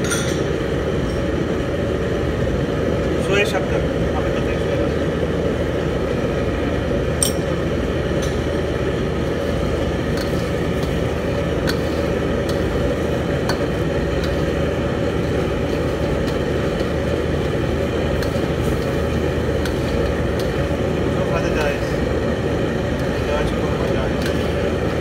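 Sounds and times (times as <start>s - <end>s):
gas wok burner roaring: 0.0s - 25.0s.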